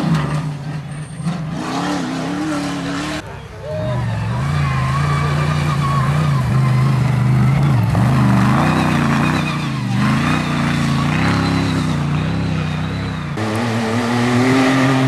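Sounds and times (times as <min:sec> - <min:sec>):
buggy engine running hard: 0:00.0 - 0:15.0.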